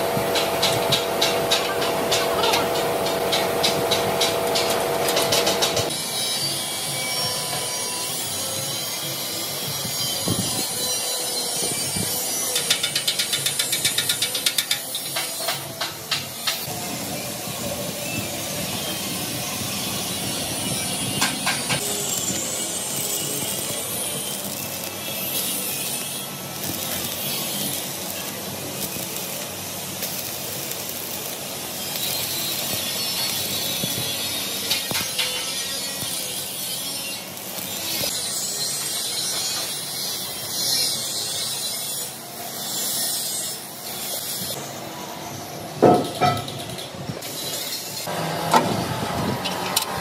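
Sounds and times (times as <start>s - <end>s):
workshop machinery hissing: 0.0s - 50.0s.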